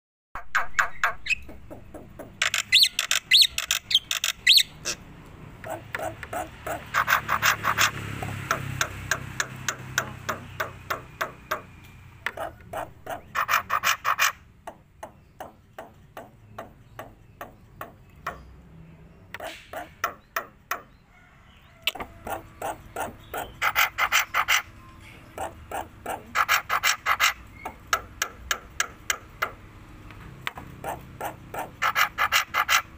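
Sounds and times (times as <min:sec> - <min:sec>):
bird calling in rapid clicks: 0:00.4 - 0:05.0, 0:05.6 - 0:18.4, 0:21.8 - 0:24.7, 0:25.4 - 0:29.6, 0:30.4 - 0:32.9.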